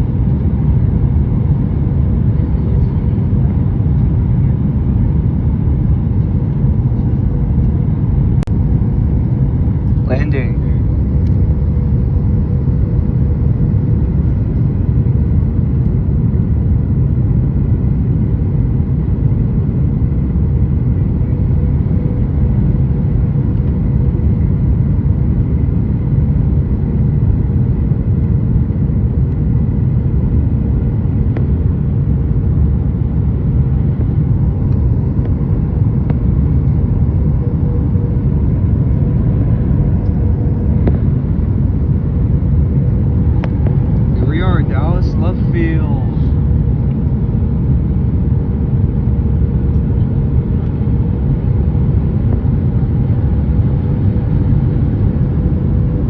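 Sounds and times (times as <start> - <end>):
constant hum: 0.0 - 56.0
low rumble of airflow and engines: 0.0 - 56.0.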